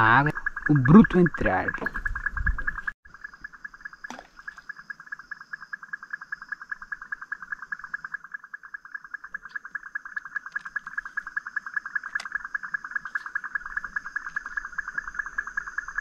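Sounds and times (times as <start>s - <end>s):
frog trilling: 0.0s - 16.0s.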